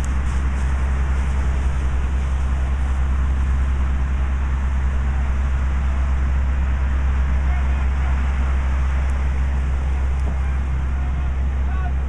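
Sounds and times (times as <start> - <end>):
large vehicle engine rumbling: 0.0 - 12.0.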